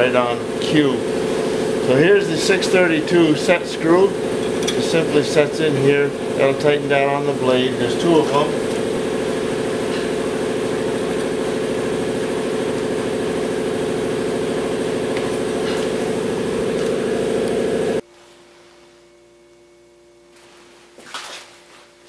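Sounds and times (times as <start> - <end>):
air compressor running: 0.0 - 19.2.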